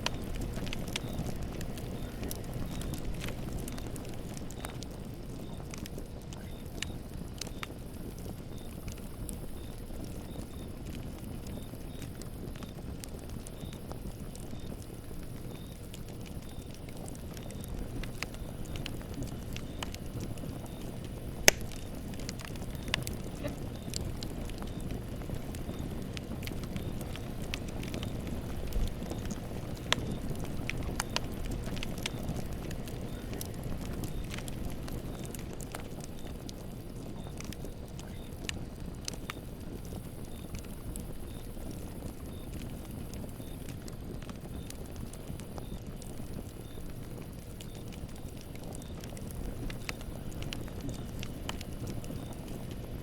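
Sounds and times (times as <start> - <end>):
burning wood crackling and popping: 0.0 - 53.0
flames rumbling: 0.0 - 53.0.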